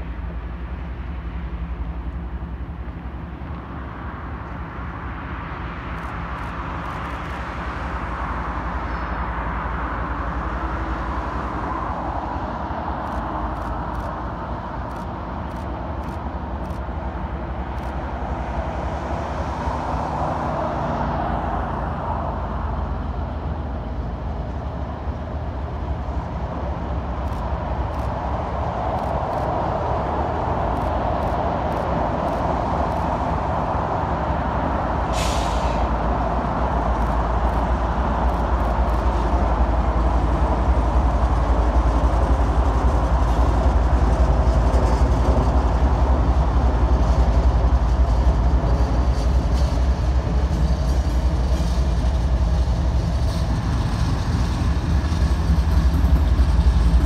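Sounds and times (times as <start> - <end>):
diesel freight train rolling: 0.0 - 57.0.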